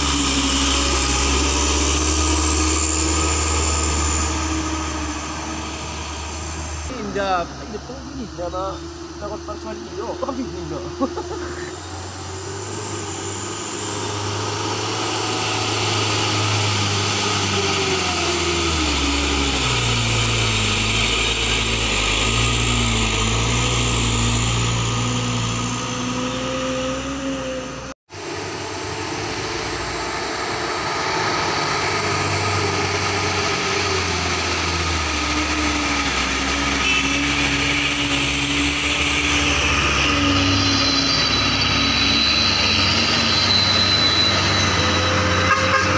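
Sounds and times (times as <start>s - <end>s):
diesel truck engines labouring: 0.0s - 45.9s.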